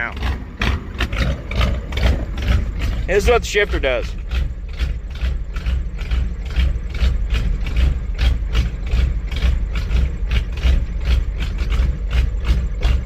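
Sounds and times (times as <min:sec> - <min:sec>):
diesel engine idling with clatter: 0:00.0 - 0:13.0.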